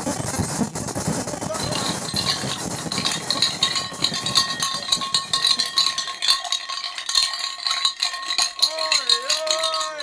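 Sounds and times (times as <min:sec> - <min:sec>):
metallic rattling and clinking: 0:01.4 - 0:10.0.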